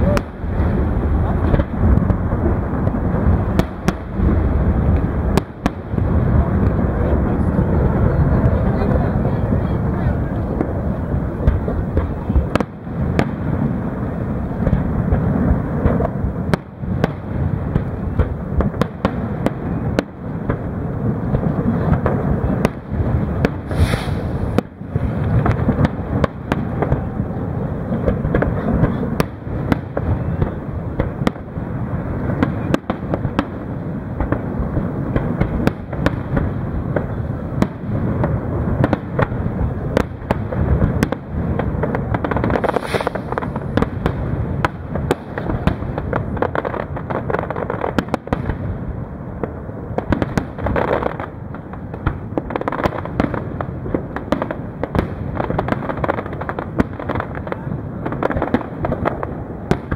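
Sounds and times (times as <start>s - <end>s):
fireworks bangs and cracks: 0.0s - 59.9s.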